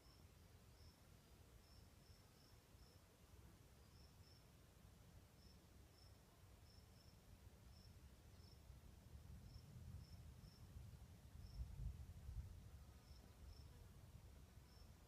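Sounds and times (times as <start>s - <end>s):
crickets chirping faintly: 0.0s - 15.0s.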